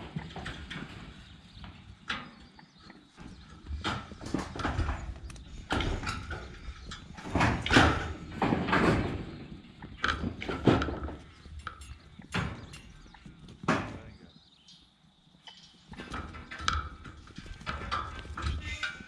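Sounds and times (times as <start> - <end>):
sheep hooves clattering: 0.0 - 19.0.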